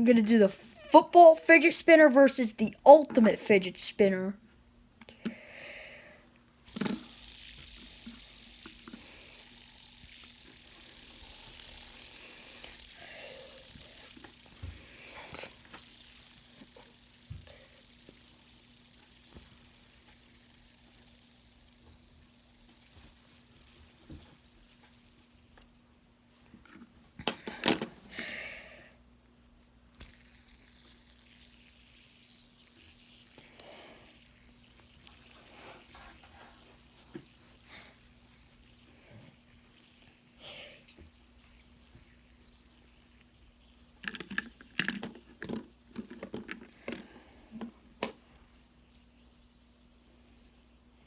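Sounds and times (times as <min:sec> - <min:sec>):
fidget spinners whirring: 0:00.0 - 0:04.3, 0:06.6 - 0:28.7, 0:30.0 - 0:51.0.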